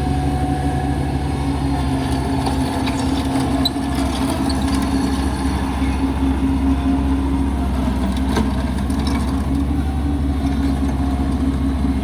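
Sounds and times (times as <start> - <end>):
loader engine running: 0.0 - 12.0.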